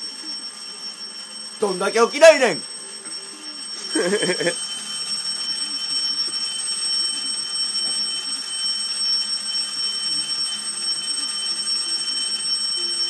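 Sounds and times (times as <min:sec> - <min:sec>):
alarm clock ringing: 0:00.0 - 0:13.0.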